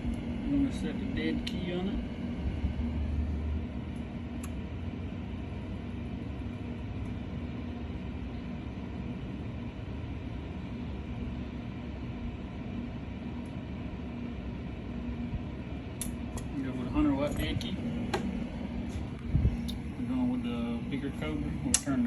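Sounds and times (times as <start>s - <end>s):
cooling fan whooshing: 0.0s - 22.0s
low electrical hum: 0.0s - 22.0s.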